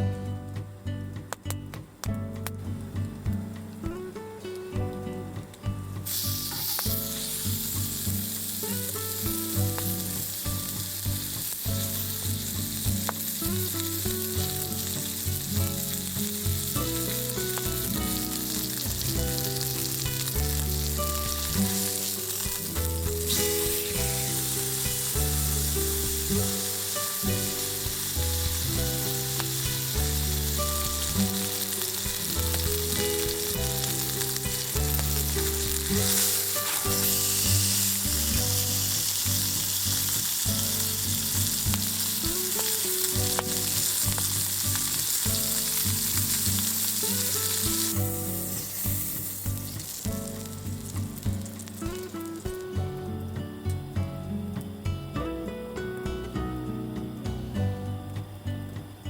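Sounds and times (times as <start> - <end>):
light background music: 0.0 - 59.0
meat sizzling in hot fat: 6.0 - 53.4.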